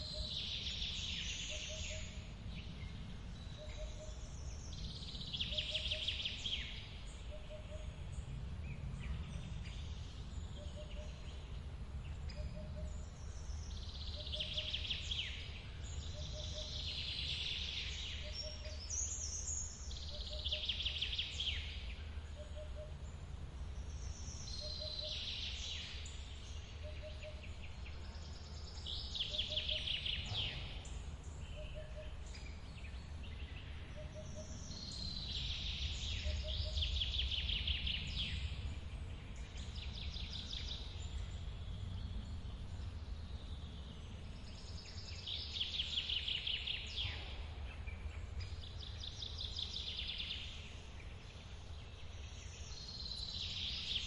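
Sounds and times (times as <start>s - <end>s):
songbirds trilling: 0.0s - 54.0s.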